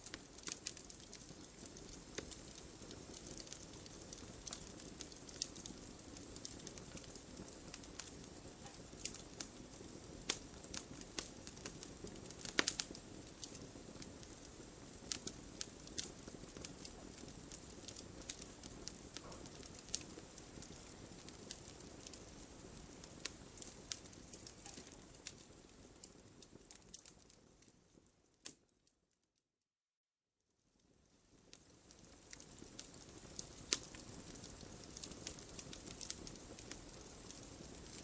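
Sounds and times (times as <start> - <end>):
wood fire crackling and popping: 0.0 - 28.7, 30.8 - 38.0.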